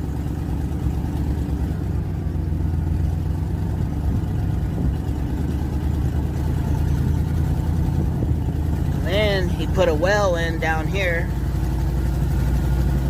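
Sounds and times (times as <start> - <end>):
vehicle engine running steadily: 0.0 - 13.0.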